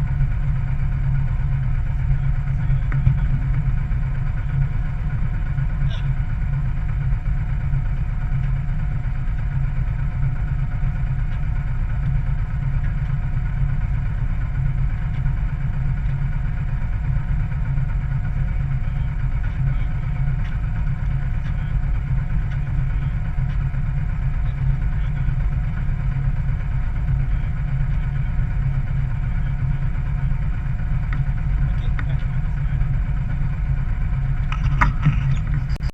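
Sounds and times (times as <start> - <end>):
boat engine running: 0.0 - 35.9.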